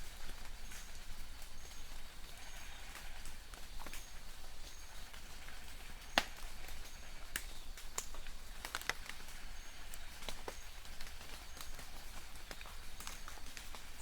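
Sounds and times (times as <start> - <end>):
light rain hiss: 0.0 - 14.0
raindrops ticking on leaves: 0.0 - 14.0.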